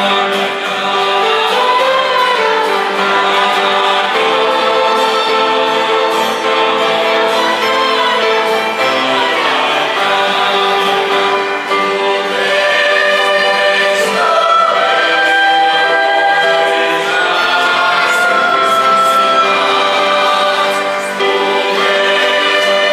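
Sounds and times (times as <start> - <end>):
chamber ensemble playing: 0.0 - 22.9
mixed choir singing: 0.0 - 22.9.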